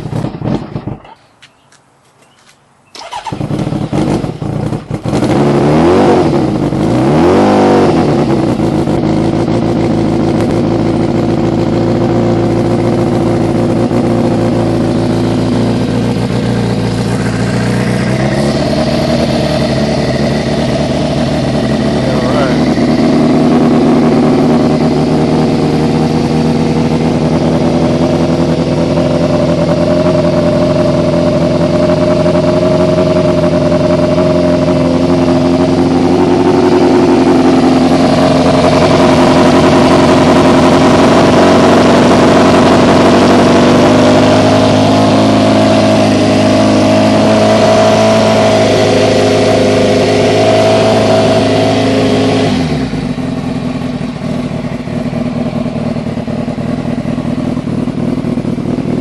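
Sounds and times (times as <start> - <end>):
motorcycle engine idling: 0.0 - 5.6, 7.8 - 46.9, 50.8 - 59.0.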